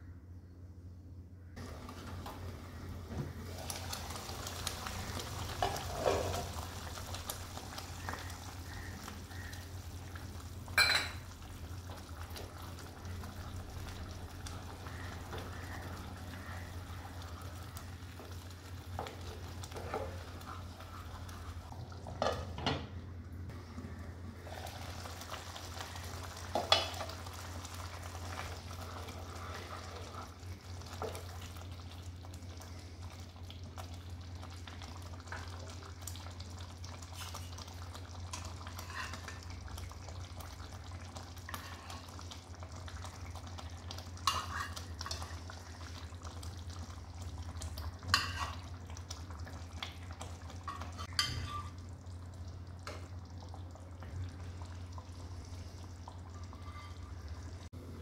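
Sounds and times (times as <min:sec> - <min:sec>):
gravy simmering and bubbling: 0:01.4 - 0:58.0.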